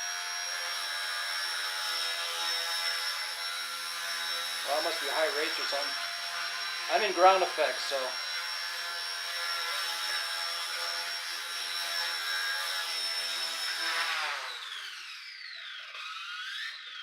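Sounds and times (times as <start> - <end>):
toy helicopter motor whining: 0.0 - 17.0.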